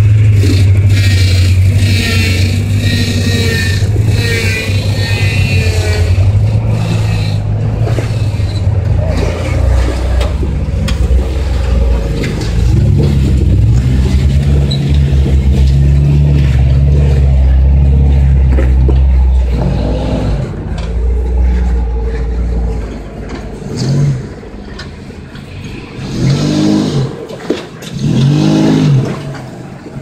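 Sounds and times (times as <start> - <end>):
truck engines at low speed: 0.0 - 30.0.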